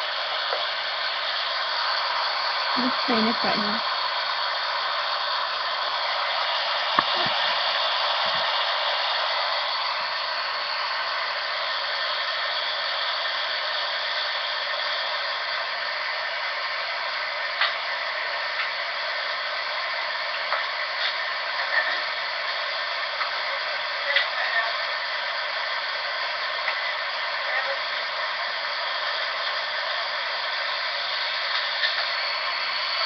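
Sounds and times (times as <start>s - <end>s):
static hiss: 0.0s - 33.0s.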